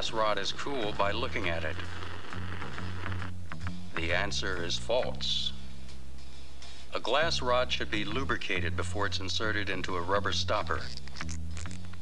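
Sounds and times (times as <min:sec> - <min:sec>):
low sustained bass notes: 0:00.0 - 0:06.2, 0:07.0 - 0:12.0.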